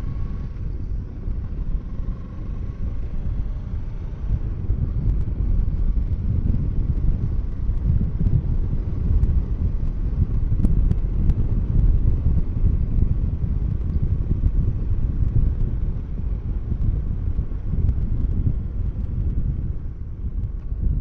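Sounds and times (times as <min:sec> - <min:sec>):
motorcycle engine running: 0:00.0 - 0:21.0
wind rumble on microphone: 0:00.0 - 0:21.0.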